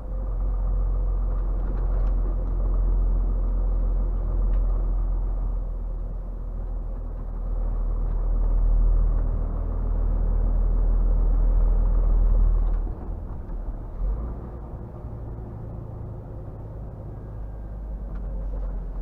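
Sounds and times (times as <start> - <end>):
diesel truck engine humming: 0.0 - 19.0.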